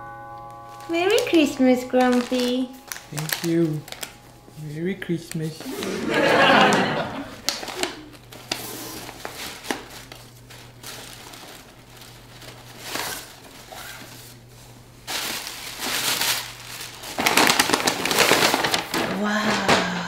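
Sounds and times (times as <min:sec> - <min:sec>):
steady low hum: 0:00.0 - 0:20.0
paper rustling and crinkling: 0:00.6 - 0:19.8.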